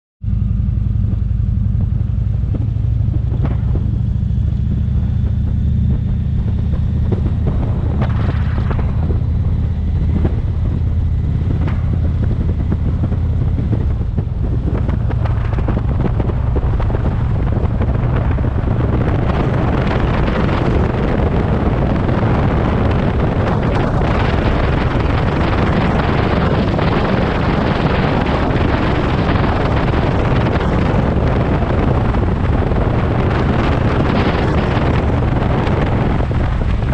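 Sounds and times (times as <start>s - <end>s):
motorcycle engine running: 0.2s - 36.9s
wind rushing over microphone: 0.3s - 36.9s.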